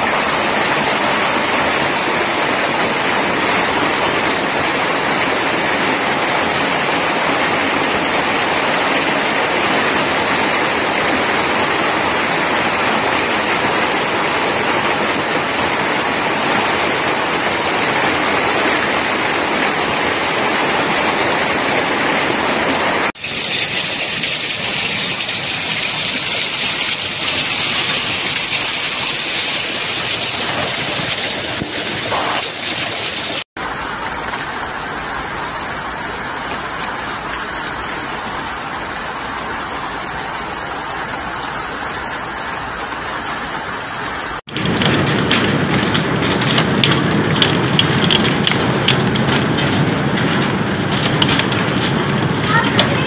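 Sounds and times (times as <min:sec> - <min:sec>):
heavy hail clattering: 0:00.0 - 0:53.0.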